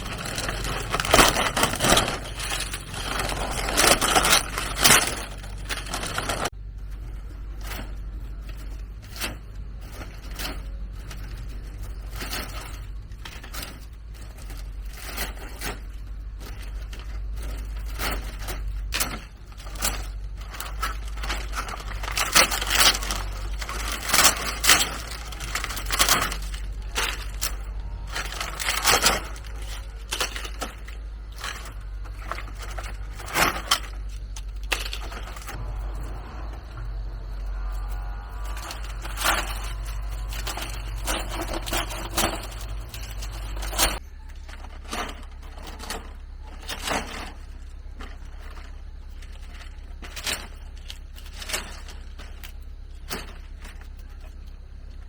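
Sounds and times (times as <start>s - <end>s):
dry leaves crackling and rustling: 0.0s - 55.0s.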